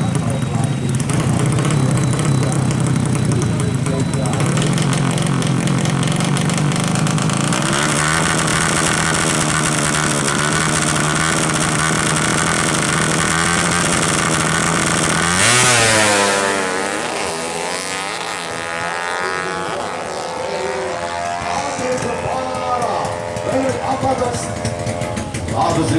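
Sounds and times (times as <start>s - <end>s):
motorcycle engine passing by: 0.0s - 25.9s.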